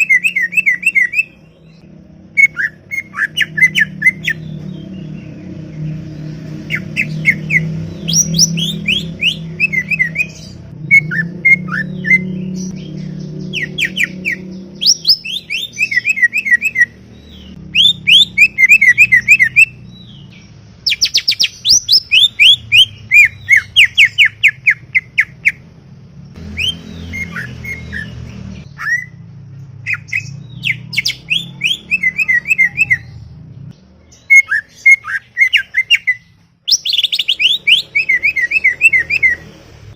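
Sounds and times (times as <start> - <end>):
bird singing whistled notes: 0.0 - 25.6, 26.5 - 29.2, 29.8 - 33.3, 34.0 - 39.5.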